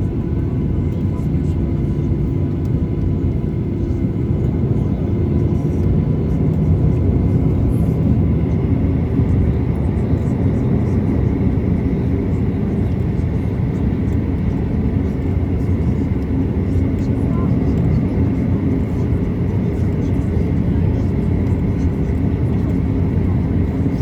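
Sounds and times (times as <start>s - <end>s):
aircraft cabin low rumble: 0.0s - 24.0s.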